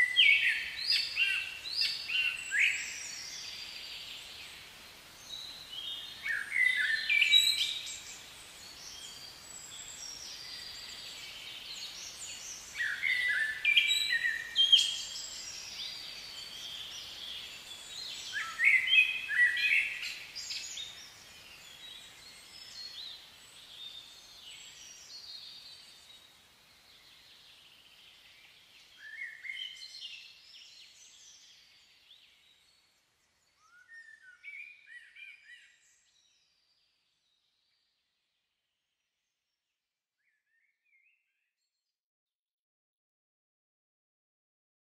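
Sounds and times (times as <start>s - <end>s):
steady background hiss: 0.0s - 36.0s
songbird chirping: 0.0s - 41.8s.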